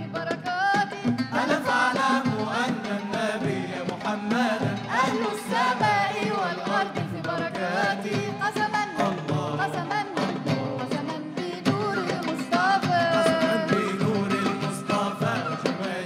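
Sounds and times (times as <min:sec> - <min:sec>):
devotional ensemble music with oud: 0:00.0 - 0:16.0.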